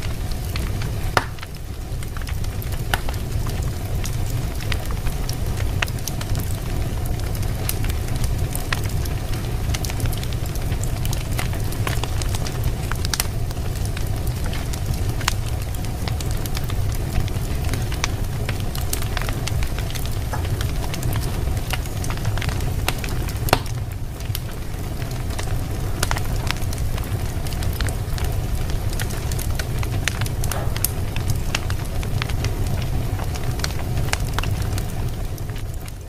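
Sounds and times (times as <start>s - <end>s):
fire crackling and popping: 0.0s - 36.0s
low fire rumble: 0.0s - 36.0s.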